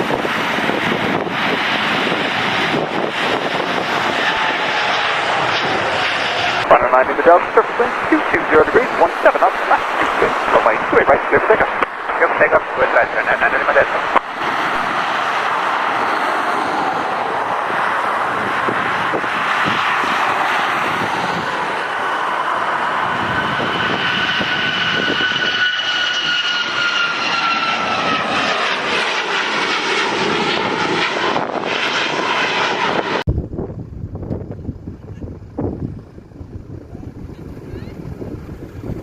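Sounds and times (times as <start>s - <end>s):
high engine whine: 0.0s - 39.0s
jet engines roaring: 0.0s - 39.0s.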